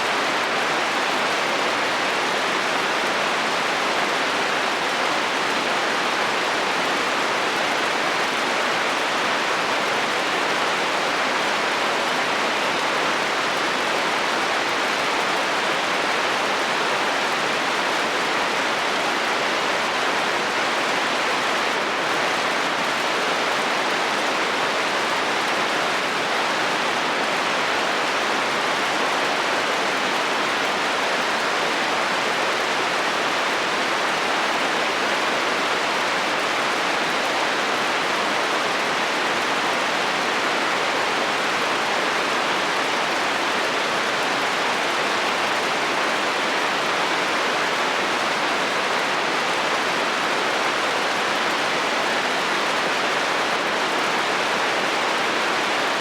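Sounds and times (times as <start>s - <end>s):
heavy rain on metal roof: 0.0s - 56.0s.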